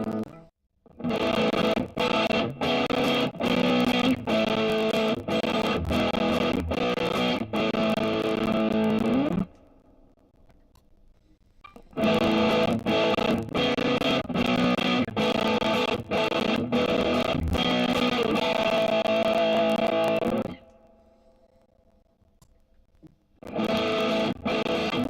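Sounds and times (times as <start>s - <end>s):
distorted electric guitar riff: 0.0s - 9.9s, 11.8s - 21.4s, 23.4s - 25.0s.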